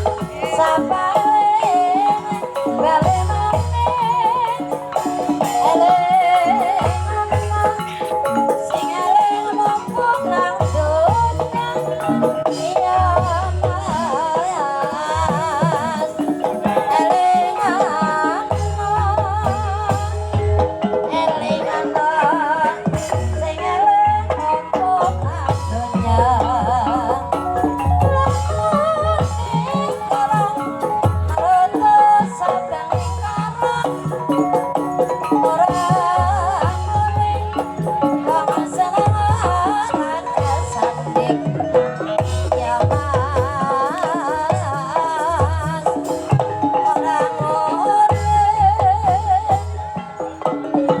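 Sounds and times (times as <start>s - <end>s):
hand drum strokes: 0.0s - 51.0s
ornamented wavering melody: 0.0s - 51.0s
sustained gamelan tones: 0.0s - 51.0s.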